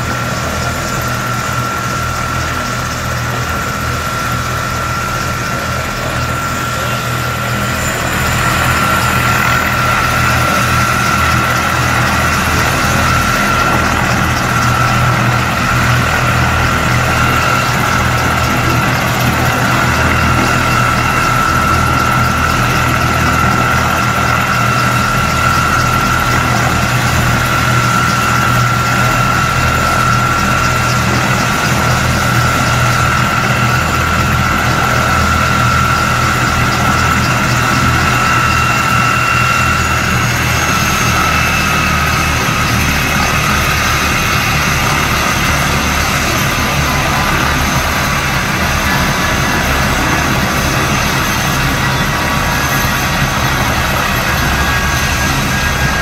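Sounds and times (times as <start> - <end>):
helicopter low rumble: 0.0 - 56.0
helicopter turbine whine: 0.0 - 56.0.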